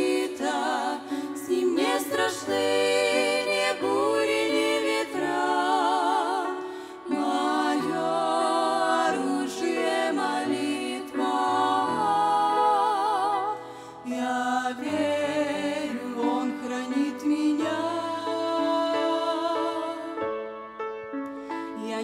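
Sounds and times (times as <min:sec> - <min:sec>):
women singing worship song: 0:00.0 - 0:20.2, 0:21.7 - 0:22.0
grand piano accompaniment: 0:00.0 - 0:22.0.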